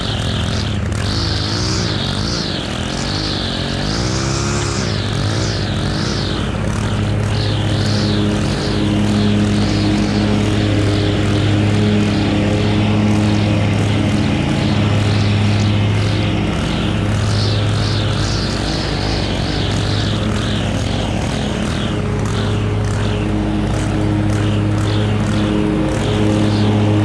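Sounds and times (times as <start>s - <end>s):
string trimmer running: 0.0s - 27.0s.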